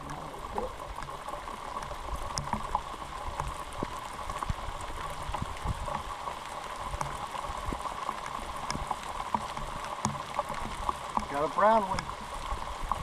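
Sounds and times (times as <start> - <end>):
light rain pattering on water: 0.0 - 13.0.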